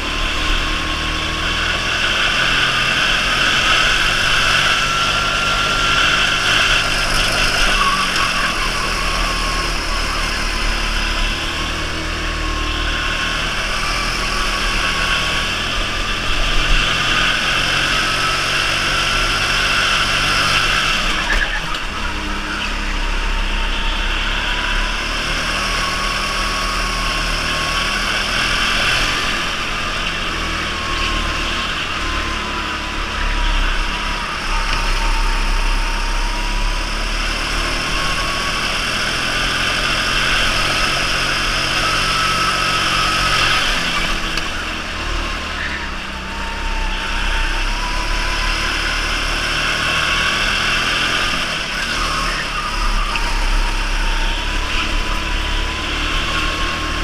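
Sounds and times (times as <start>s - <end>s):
electric go-kart motor whining: 0.0s - 57.0s.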